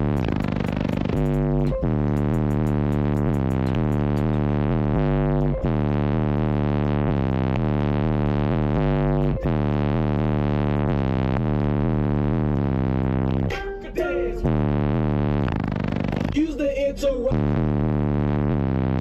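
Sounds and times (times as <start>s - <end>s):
loud bass-heavy electronic music: 0.0s - 19.0s.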